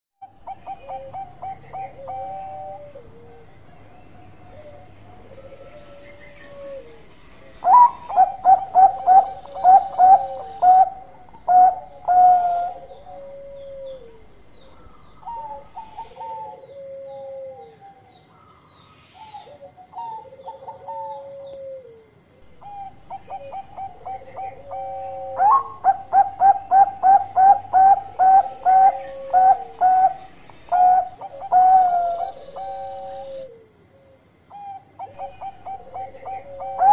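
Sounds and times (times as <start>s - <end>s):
dove cooing: 0.2s - 18.1s, 19.1s - 36.9s.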